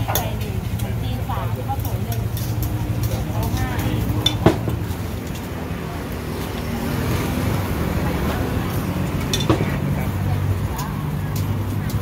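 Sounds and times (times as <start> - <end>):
steel bowls and utensils clinking: 0.0 - 12.0.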